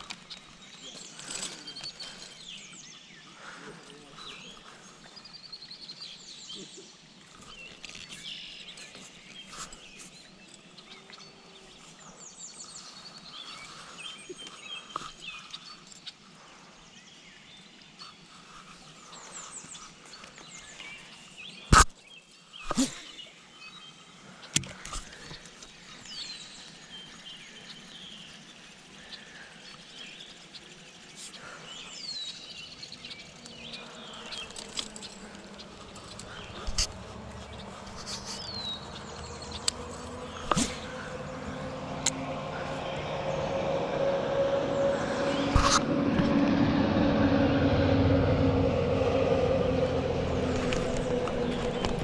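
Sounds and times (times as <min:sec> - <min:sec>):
birds chirping and singing: 0:00.0 - 0:16.3, 0:24.4 - 0:52.0.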